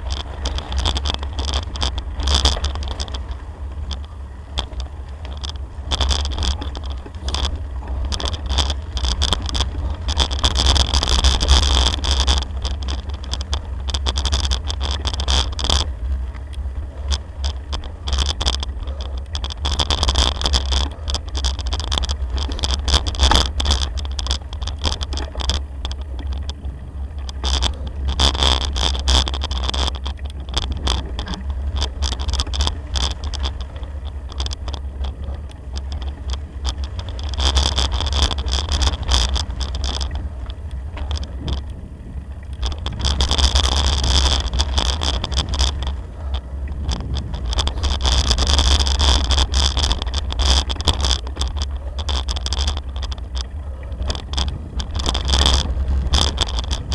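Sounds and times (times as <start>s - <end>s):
bicycle tyres crunching on gravel: 0.0s - 56.9s
small clicks: 0.0s - 56.9s
wind rumble on microphone: 0.0s - 56.9s.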